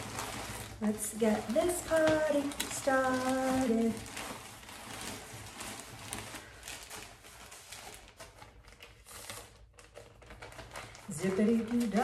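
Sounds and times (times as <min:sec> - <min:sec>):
plastic bag rustling and crinkling: 0:00.0 - 0:12.0.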